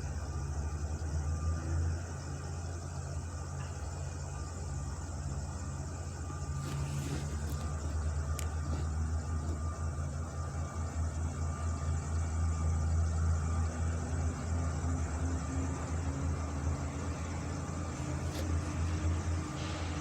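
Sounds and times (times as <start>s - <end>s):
truck engine droning: 0.0s - 20.0s.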